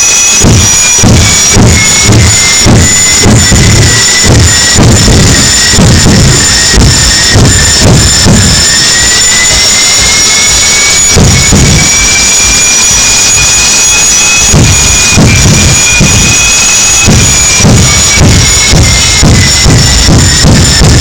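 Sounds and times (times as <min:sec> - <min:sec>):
small jet engine roaring: 0:00.0 - 0:21.0.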